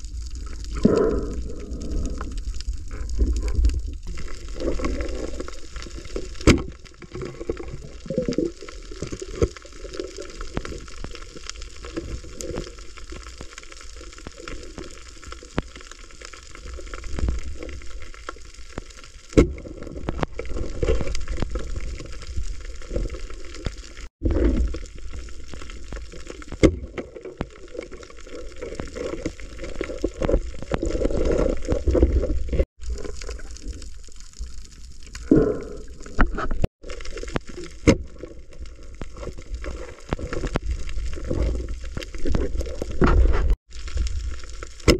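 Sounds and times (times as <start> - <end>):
underwater swishes: 0.0 - 44.9.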